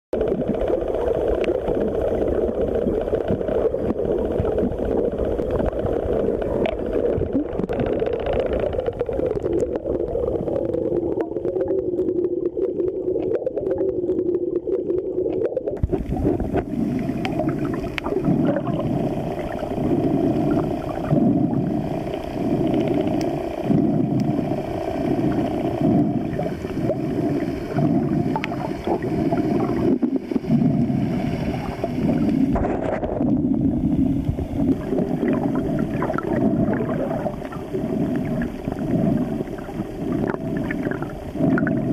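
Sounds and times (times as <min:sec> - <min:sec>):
low underwater pulses: 0:00.2 - 0:41.9
underwater low drone: 0:00.2 - 0:41.9.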